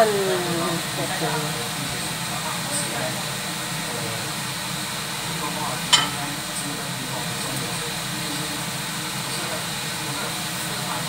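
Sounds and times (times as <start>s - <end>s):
wok cooking hiss: 0.0s - 11.0s.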